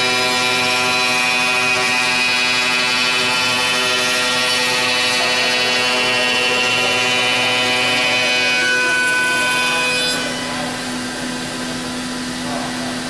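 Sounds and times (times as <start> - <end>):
machine drone: 0.0 - 13.0
router spindle whining: 0.0 - 13.0.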